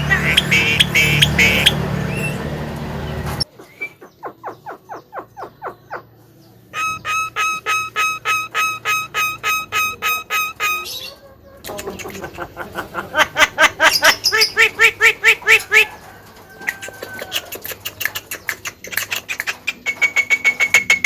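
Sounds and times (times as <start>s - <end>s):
myna bird calling: 0.0s - 21.0s.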